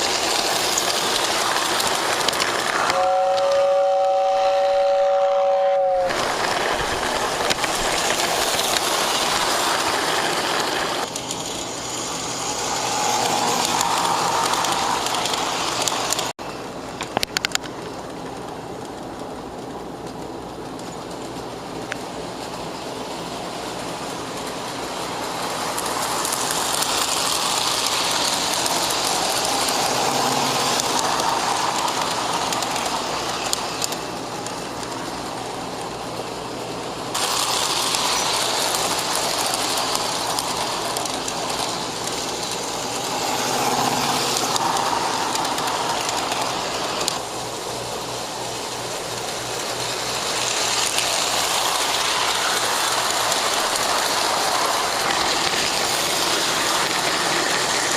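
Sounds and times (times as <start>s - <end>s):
model train whirring on track: 0.0s - 57.9s.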